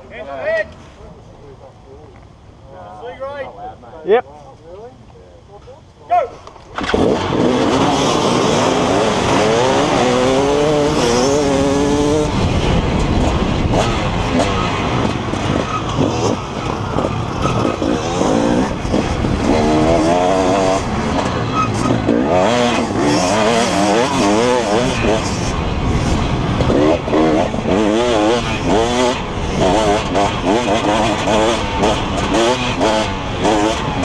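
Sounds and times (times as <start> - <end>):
dirt bike engine revving: 6.8 - 34.0.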